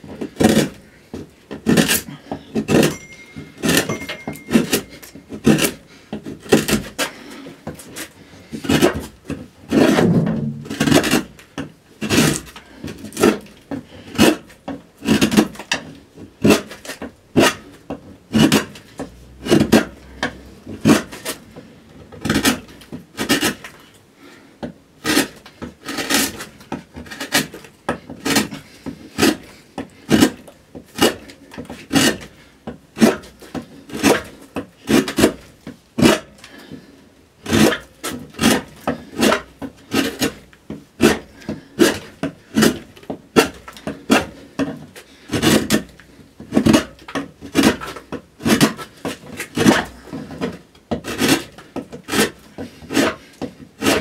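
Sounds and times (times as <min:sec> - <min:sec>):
gouge cutting wood: 0:00.0 - 0:23.8, 0:25.0 - 0:54.0.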